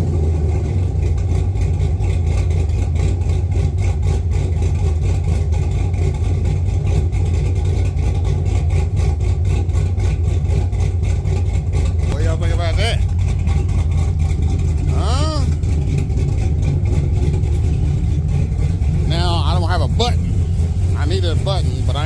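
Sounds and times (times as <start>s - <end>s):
car engine idling with lope: 0.0s - 22.0s.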